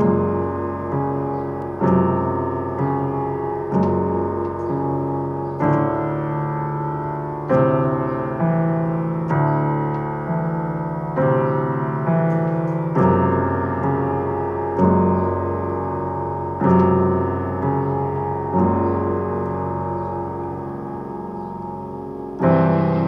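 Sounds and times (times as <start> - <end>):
piano playing chords: 0.0 - 23.0.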